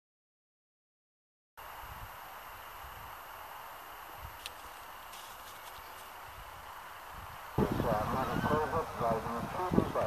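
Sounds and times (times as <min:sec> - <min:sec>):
steady hiss: 0:01.6 - 0:10.0.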